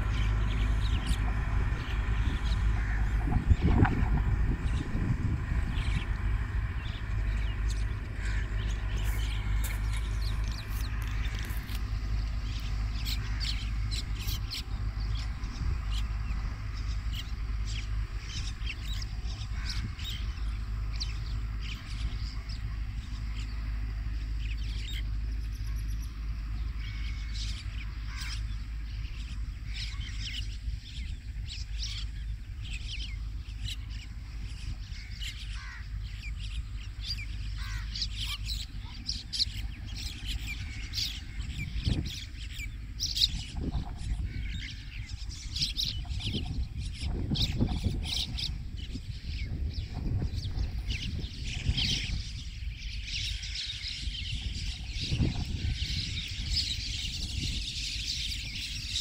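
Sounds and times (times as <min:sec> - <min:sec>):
birds chirping: 0:00.0 - 0:59.0
low rumble: 0:00.0 - 0:59.0.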